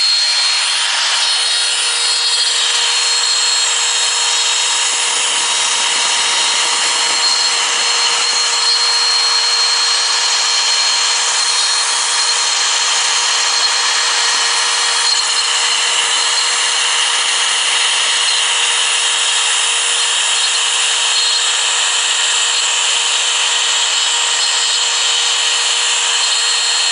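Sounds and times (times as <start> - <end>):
cnc router cutting wood: 0.0 - 26.9.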